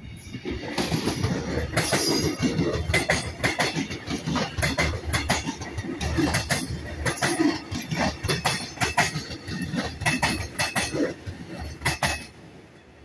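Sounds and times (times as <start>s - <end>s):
electric train passing: 0.0s - 13.0s
wheels clacking on rails: 0.0s - 13.0s.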